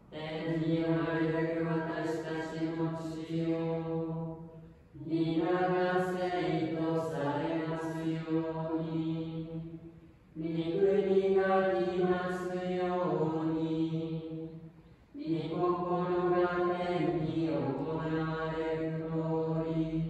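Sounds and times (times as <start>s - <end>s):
chant sung on long held notes: 0.0s - 20.0s.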